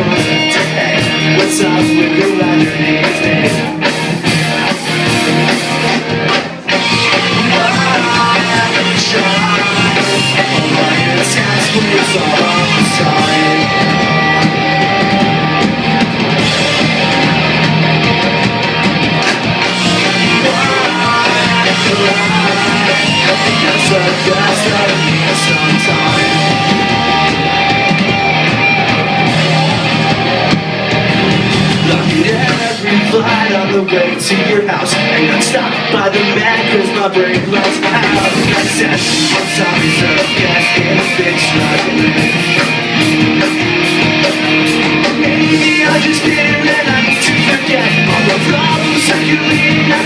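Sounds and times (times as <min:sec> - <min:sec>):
guitar-led rock music: 0:00.0 - 0:50.0.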